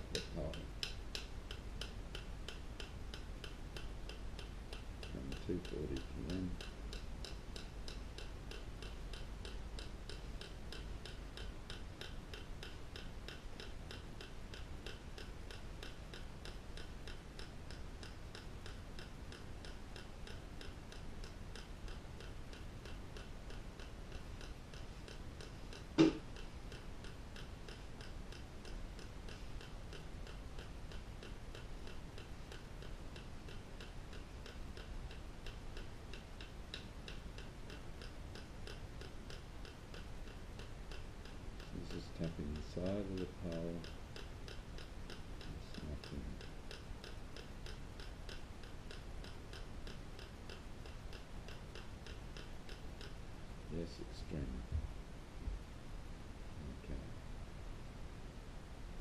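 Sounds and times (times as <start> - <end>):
fast ticking: 0.0 - 54.0
low room hum: 0.0 - 59.0.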